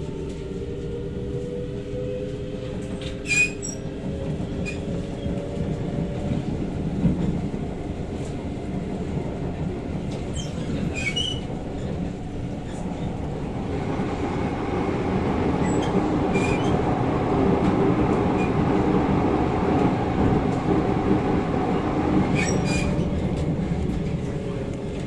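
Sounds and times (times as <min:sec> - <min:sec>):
train rumble on track: 0:00.0 - 0:25.0.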